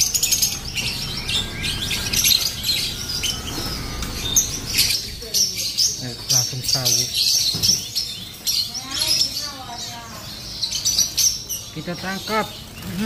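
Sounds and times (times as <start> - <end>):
canaries chirping: 0.0 - 13.0.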